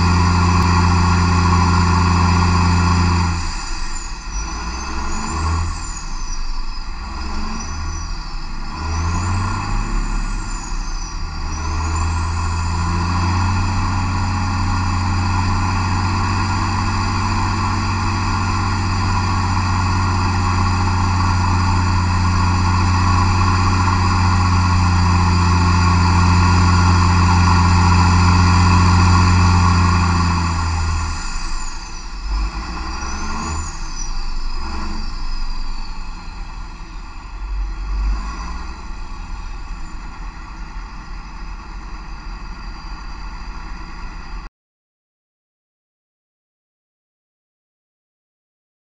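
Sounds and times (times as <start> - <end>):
diesel engine running under load: 0.0 - 44.5.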